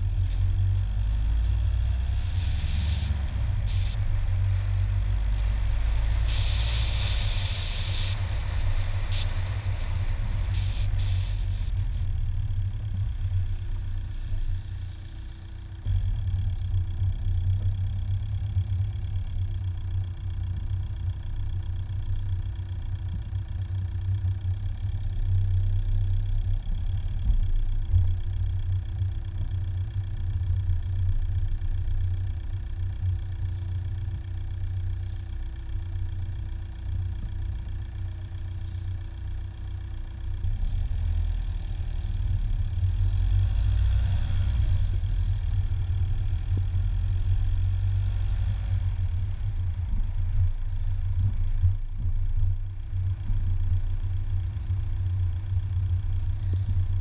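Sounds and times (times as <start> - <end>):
car engine and road rumble: 0.0 - 57.0
faint constant hum: 0.0 - 57.0.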